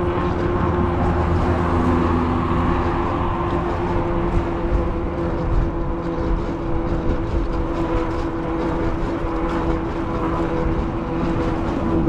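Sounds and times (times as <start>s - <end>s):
road noise: 0.0s - 12.0s
wind rumble: 0.0s - 12.0s.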